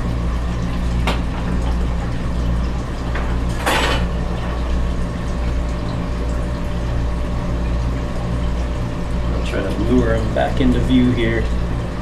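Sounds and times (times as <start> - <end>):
filter pump humming: 0.0 - 12.0.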